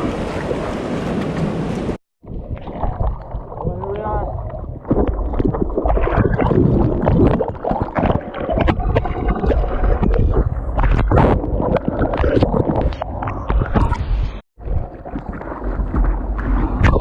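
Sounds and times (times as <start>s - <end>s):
water splashing and churning: 0.0s - 17.0s.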